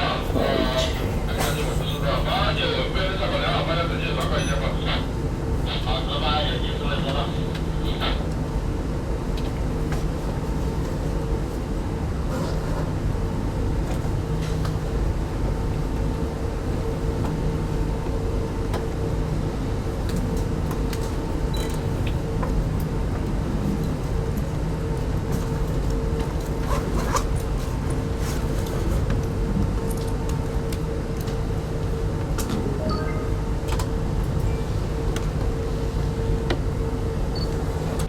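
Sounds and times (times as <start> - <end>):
train coach hum and rumble: 0.0 - 38.0.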